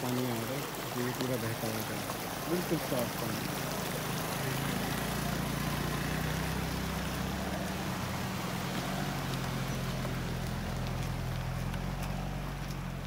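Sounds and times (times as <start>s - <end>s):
road noise: 0.0s - 13.0s
car engine hum: 0.1s - 13.0s.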